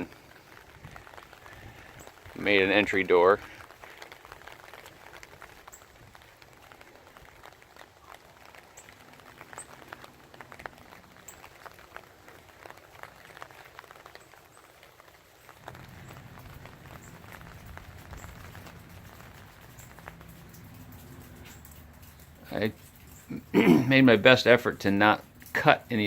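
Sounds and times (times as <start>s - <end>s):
small ticks and crackles: 0.0s - 26.0s.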